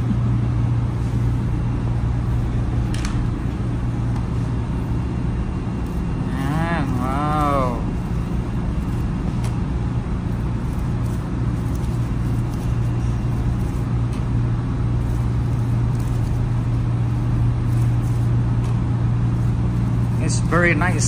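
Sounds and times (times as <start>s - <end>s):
low mechanical drone: 0.0s - 21.0s.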